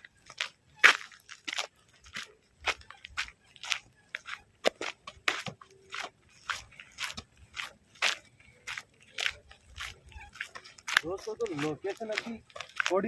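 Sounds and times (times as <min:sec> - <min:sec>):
footsteps crunching on leaves: 0:00.0 - 0:13.0.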